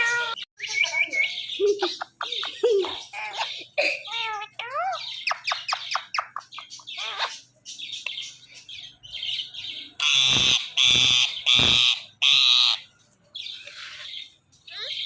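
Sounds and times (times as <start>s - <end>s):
parakeet chirping and squawking: 0.0s - 15.0s.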